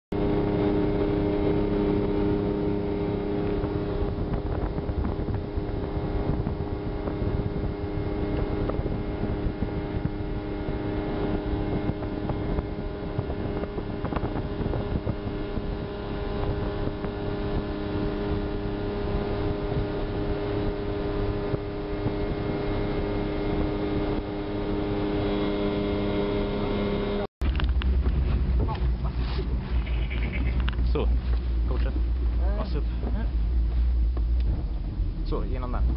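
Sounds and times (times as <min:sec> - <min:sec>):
boat engine droning: 0:00.1 - 0:35.9
water rushing past hull: 0:00.1 - 0:35.9
wind: 0:00.1 - 0:35.9.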